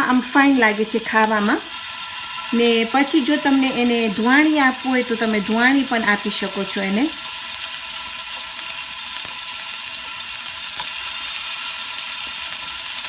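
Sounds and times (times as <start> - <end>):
meatballs sizzling in a frying pan: 0.0 - 13.0.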